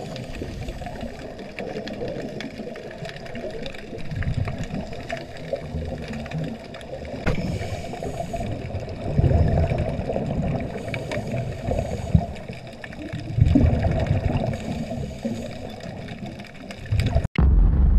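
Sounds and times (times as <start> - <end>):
breath bubbles underwater: 0.0 - 17.3
underwater rushing and gurgling: 0.0 - 17.7.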